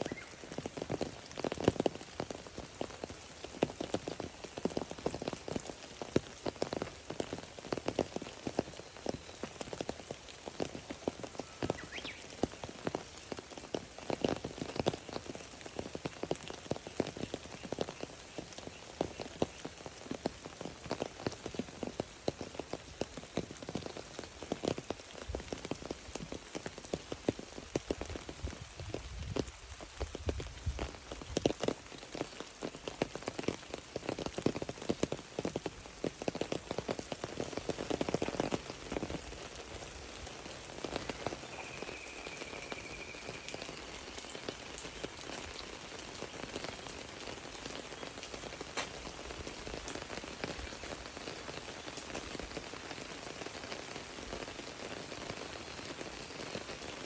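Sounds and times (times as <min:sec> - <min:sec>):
rain falling on a surface: 0:00.0 - 0:57.0.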